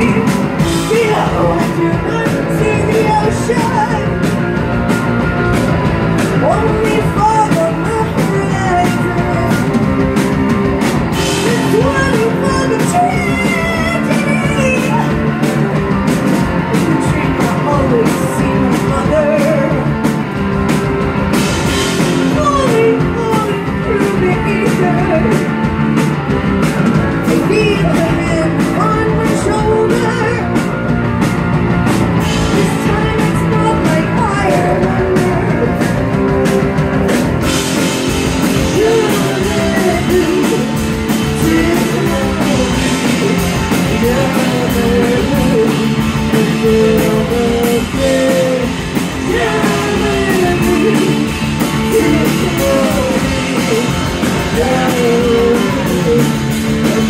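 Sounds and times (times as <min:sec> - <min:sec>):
woman singing: 0:00.0 - 0:04.3, 0:06.3 - 0:09.8, 0:11.1 - 0:15.4, 0:16.4 - 0:20.0, 0:22.0 - 0:25.6, 0:27.2 - 0:30.6, 0:32.2 - 0:36.1, 0:37.4 - 0:57.0
bass guitar: 0:00.0 - 0:57.0
drum kit: 0:00.0 - 0:57.0
electric guitars: 0:00.0 - 0:57.0.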